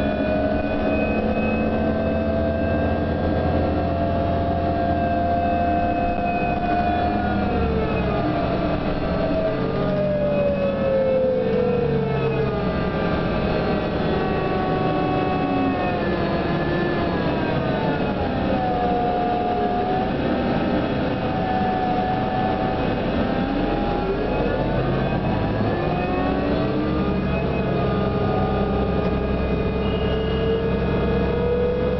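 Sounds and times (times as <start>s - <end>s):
bus motor whine: 0.0s - 31.9s.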